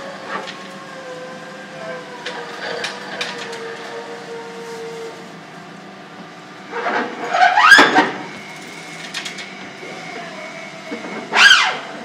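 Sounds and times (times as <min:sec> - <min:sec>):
workshop machine hum with whine: 0:00.0 - 0:12.0.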